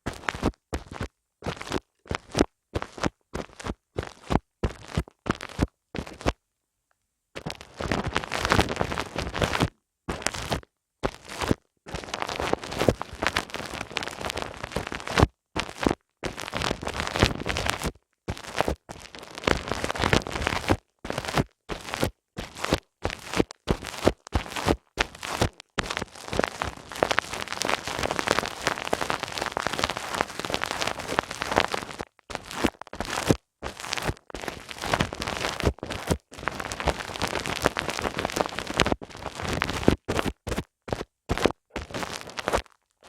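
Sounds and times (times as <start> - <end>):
scratchy rubbing on microphone: 0.1 - 6.4, 7.4 - 42.8.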